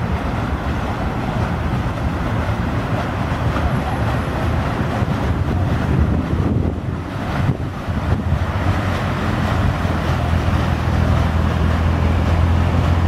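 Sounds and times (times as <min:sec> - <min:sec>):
boat engine drone: 0:00.0 - 0:13.0
water churned by paddle wheel: 0:00.0 - 0:13.0.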